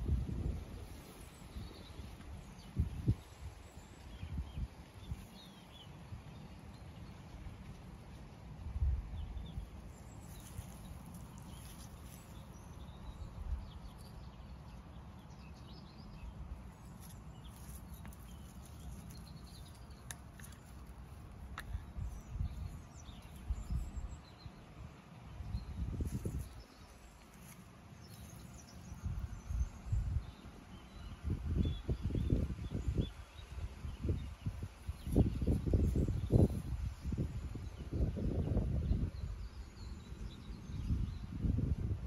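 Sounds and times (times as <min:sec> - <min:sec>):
wind rumble on microphone: 0:00.0 - 0:42.0.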